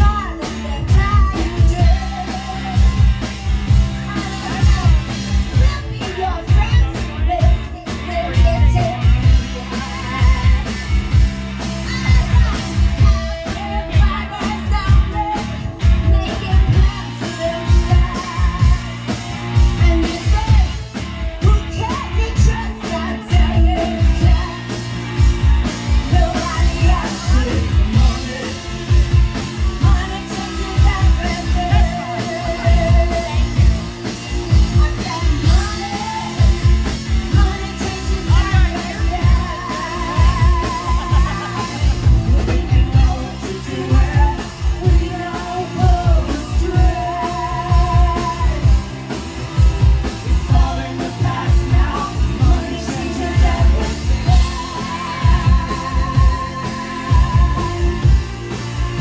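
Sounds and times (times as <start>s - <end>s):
guitars: 0.0s - 59.0s
lead vocal singing: 0.0s - 59.0s
steady drum beat: 0.0s - 59.0s.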